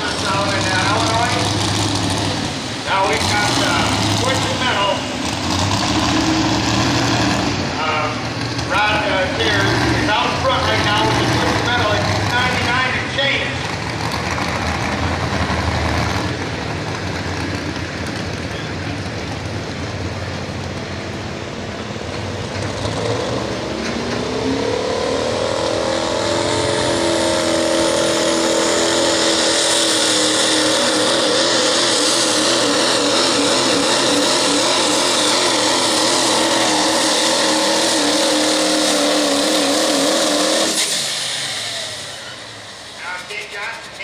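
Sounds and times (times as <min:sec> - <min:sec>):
diesel truck engine revving: 0:00.0 - 0:44.0.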